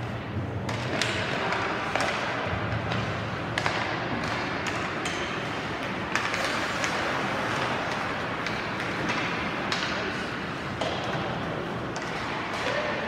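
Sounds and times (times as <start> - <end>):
hockey sticks clacking on puck: 0.0 - 13.0
puck hitting boards: 0.6 - 13.0
skates on ice: 0.6 - 13.0.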